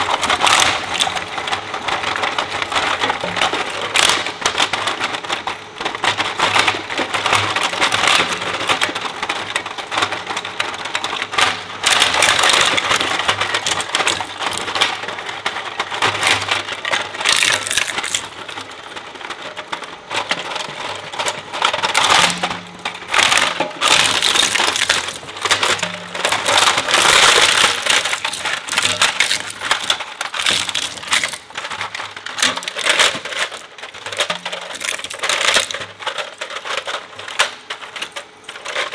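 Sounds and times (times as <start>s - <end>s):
shredder crunching plastic and metal: 0.0s - 38.9s.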